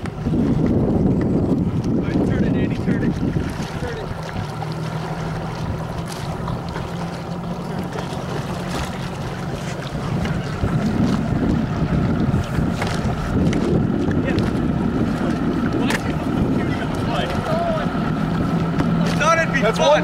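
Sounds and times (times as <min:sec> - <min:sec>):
steady low hum: 0:00.0 - 0:19.7
paddles splashing water: 0:00.0 - 0:20.0
wind buffeting microphone: 0:00.0 - 0:20.0.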